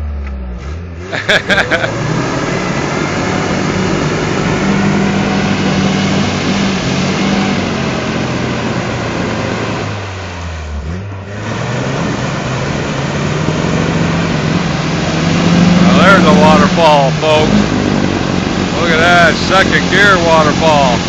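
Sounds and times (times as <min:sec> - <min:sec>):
tires churning through mud: 0:00.0 - 0:21.0
truck engine revving high: 0:00.0 - 0:21.0.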